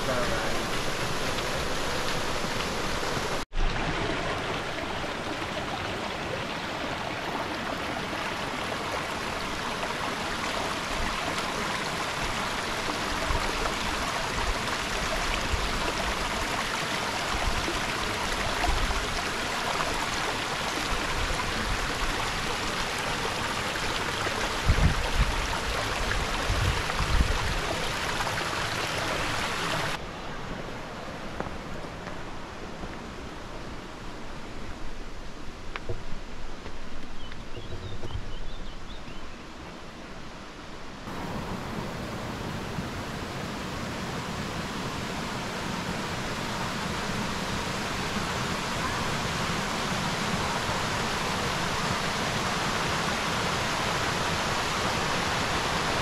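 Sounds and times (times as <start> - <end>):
brook rushing and splashing: 0.0 - 30.0, 41.1 - 56.0.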